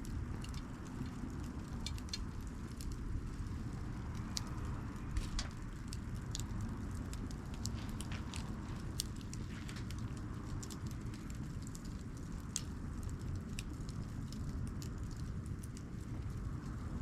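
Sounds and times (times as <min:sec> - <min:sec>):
campfire burning rush: 0:00.0 - 0:17.0
fire crackling and popping: 0:00.0 - 0:17.0.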